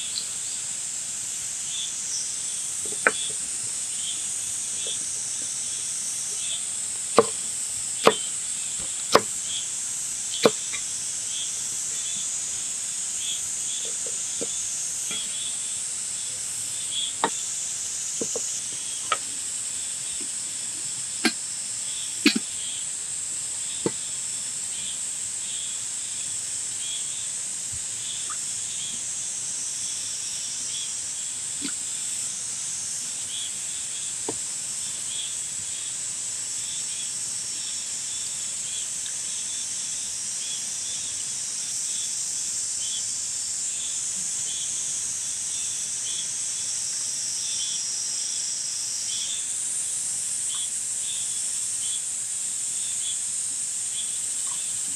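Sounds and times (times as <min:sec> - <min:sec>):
high-pitched insect chorus: 0:00.0 - 0:54.9.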